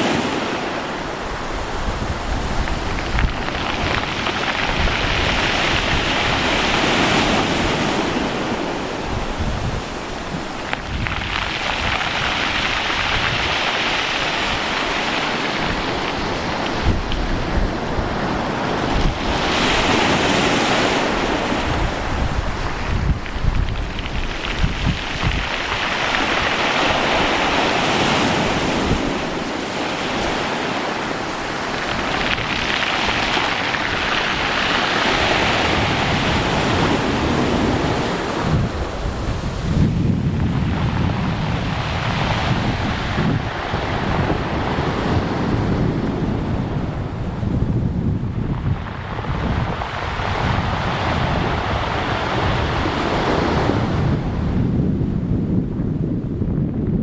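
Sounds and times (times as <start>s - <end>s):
waves washing and surging: 0.0s - 57.0s
wind buffeting the microphone: 0.0s - 57.0s.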